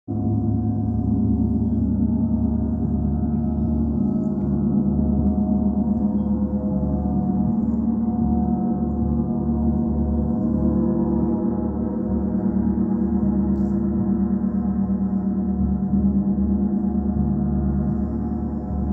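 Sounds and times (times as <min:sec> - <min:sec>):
slow bass pulsing: 0:00.1 - 0:18.9.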